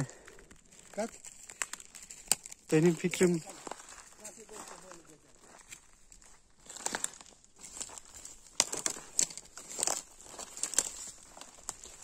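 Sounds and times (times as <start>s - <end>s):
dry leaves and twigs rustling: 0.0s - 12.0s
twigs snapping: 0.0s - 12.0s.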